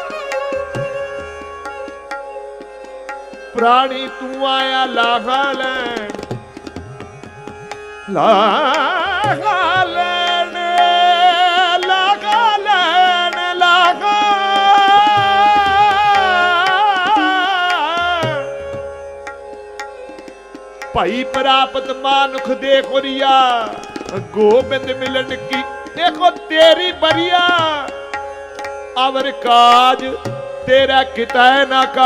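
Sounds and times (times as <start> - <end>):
bowed strings sliding melody: 0.0 - 32.0
tabla drumming: 0.0 - 32.0.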